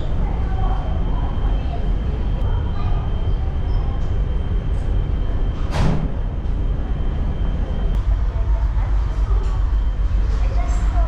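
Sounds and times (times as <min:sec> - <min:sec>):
ship engine low rumble: 0:00.0 - 0:11.0.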